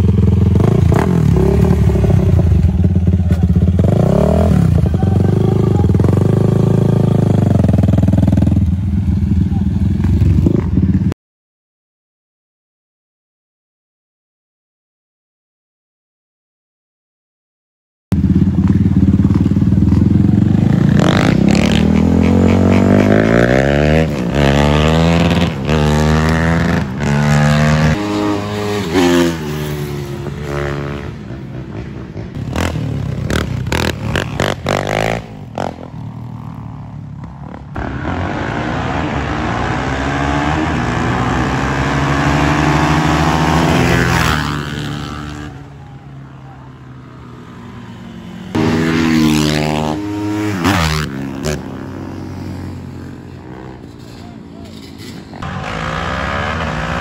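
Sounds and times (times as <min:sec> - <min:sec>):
atv engines revving: 0:00.0 - 0:11.2, 0:18.1 - 0:57.0.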